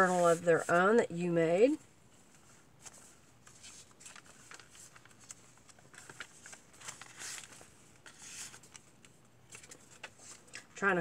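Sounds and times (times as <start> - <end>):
paper pages rustling: 0.0 - 1.0, 2.1 - 10.8.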